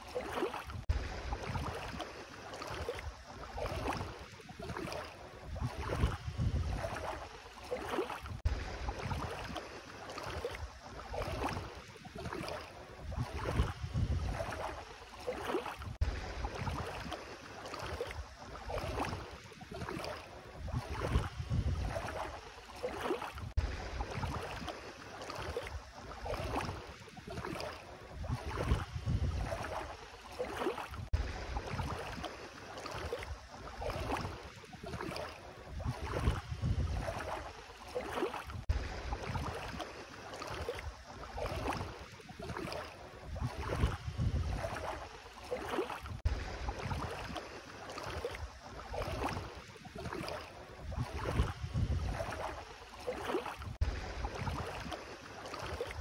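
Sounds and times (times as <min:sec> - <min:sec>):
feet wading through water: 0:00.0 - 0:56.0.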